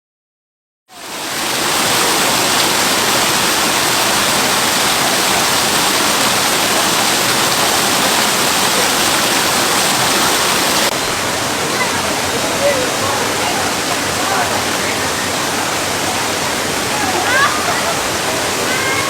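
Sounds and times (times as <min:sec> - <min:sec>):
river water rushing: 0:00.9 - 0:19.0.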